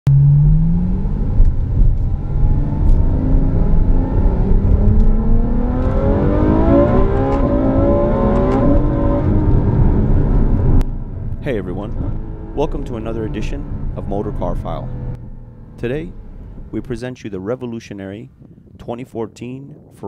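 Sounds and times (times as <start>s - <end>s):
car engine accelerating hard: 0.1s - 16.8s.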